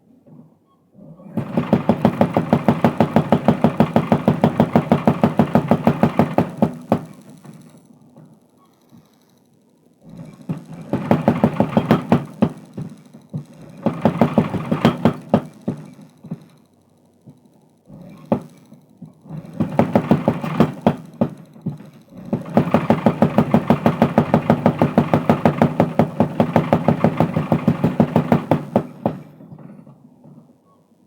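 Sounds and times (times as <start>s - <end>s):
power hammer pounding steel: 1.4s - 7.9s, 10.0s - 16.6s, 17.9s - 30.0s.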